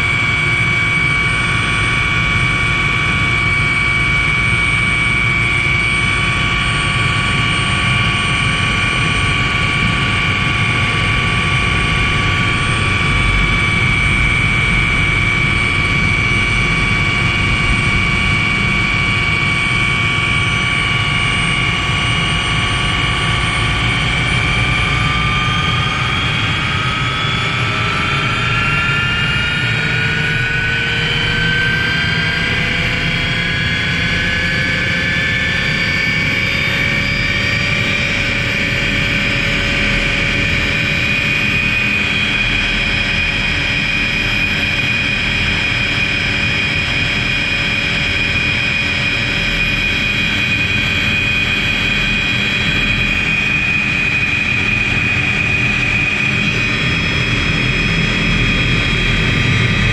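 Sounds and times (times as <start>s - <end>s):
helicopter rotor and turbine: 0.0s - 59.9s.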